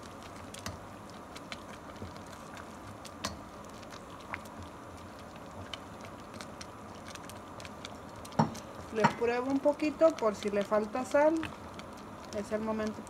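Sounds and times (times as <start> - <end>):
salsa simmering in a pot: 0.0 - 13.0.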